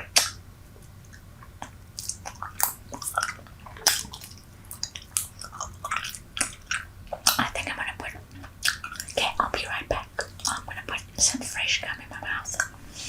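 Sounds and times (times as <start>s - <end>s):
gum chewing smacks and clicks: 0.0s - 12.8s.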